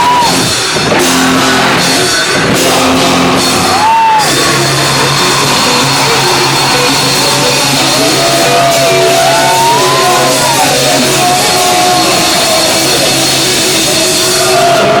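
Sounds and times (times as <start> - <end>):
shouted vocals: 0.0 - 15.0.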